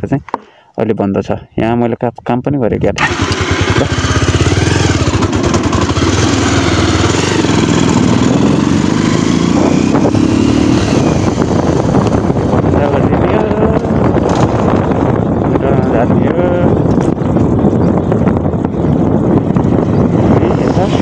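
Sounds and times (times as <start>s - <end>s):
motorcycle engine accelerating: 3.0s - 21.0s.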